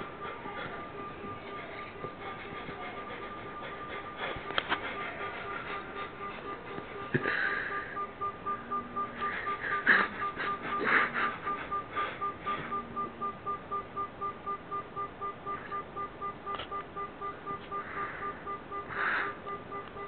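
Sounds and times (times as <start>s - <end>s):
pulsing electronic beeps: 0.0s - 20.0s.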